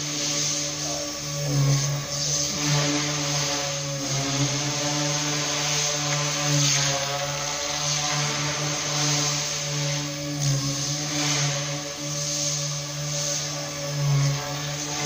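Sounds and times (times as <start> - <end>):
model aircraft motor buzzing: 0.0 - 15.0.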